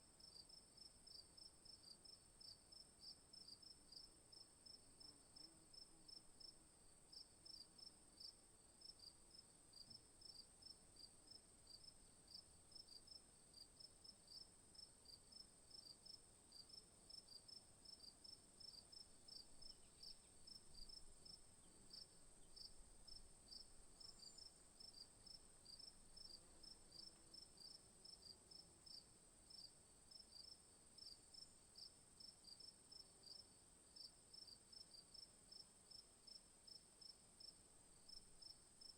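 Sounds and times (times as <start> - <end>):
insect chirps: 0.2 - 38.9.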